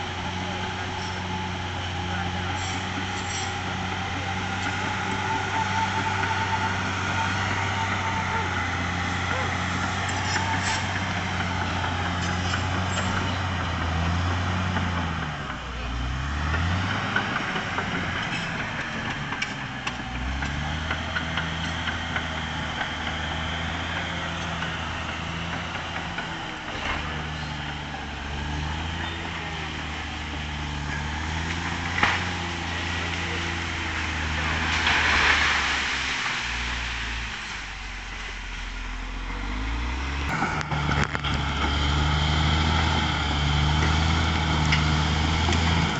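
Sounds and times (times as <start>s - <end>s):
bulldozer diesel engine under load: 0.0s - 45.9s.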